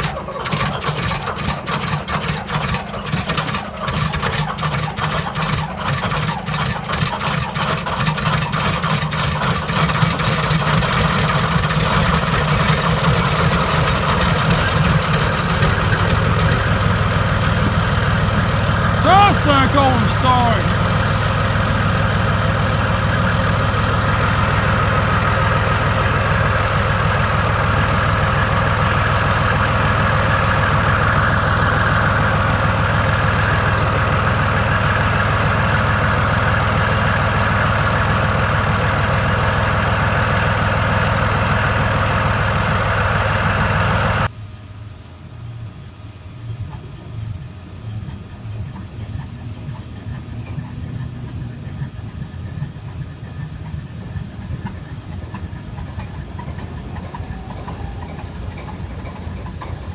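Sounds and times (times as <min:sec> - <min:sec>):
tank diesel engine running: 0:00.0 - 0:44.3, 0:45.1 - 0:59.9
locomotive engine low rumble: 0:09.7 - 0:19.5, 0:20.7 - 0:59.9.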